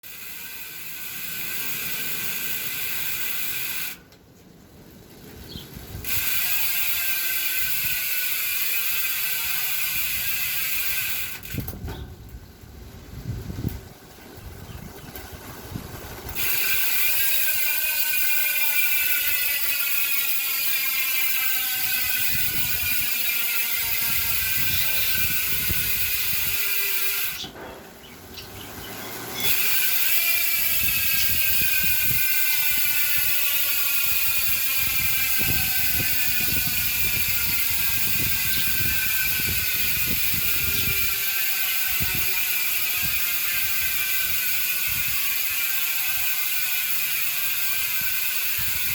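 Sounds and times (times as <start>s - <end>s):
bicycle freehub ratcheting: 0.0s - 4.1s, 5.0s - 27.5s, 29.1s - 48.9s.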